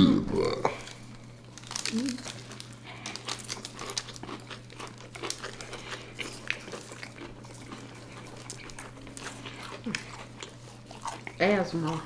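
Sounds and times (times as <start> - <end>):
crunching and chewing: 0.5 - 12.0.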